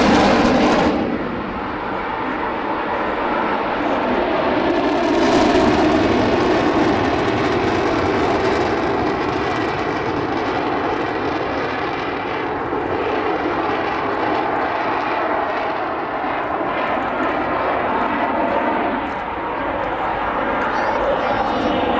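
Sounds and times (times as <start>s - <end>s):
jet aircraft flying past: 0.0s - 21.9s.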